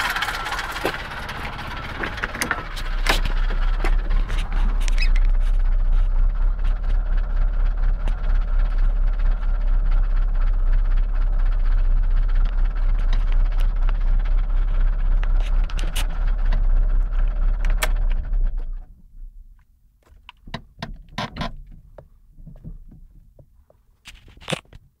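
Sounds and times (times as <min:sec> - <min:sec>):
car engine idling with knocks: 0:00.0 - 0:24.6.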